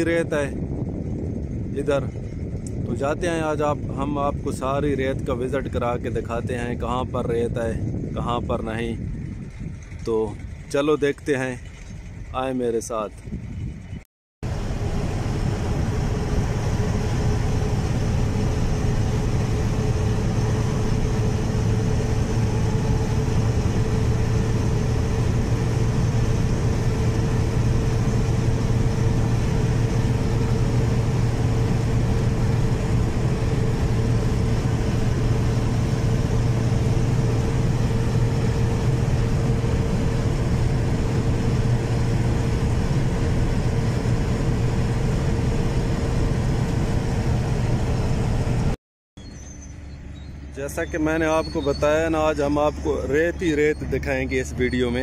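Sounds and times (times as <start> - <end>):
engine drone and road noise: 0.0 - 55.0.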